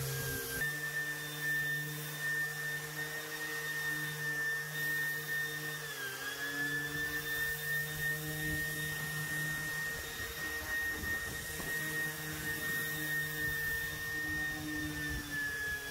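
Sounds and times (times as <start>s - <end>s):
electric orbital sander whining: 0.0s - 15.9s.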